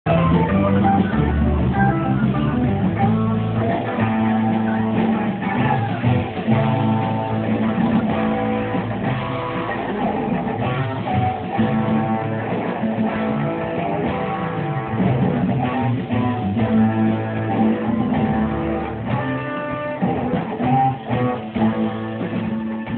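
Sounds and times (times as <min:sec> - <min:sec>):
bass: 0:00.0 - 0:22.9
guitars strumming: 0:00.0 - 0:22.9.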